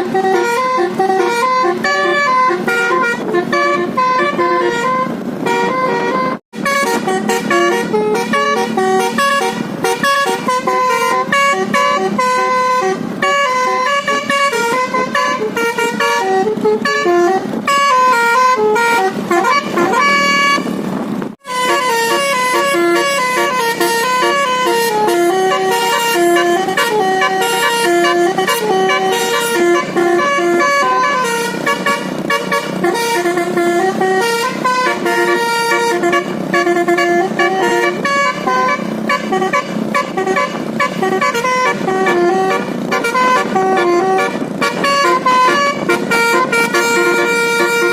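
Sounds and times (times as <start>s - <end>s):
multi-tone bus horn melody: 0.0s - 47.9s.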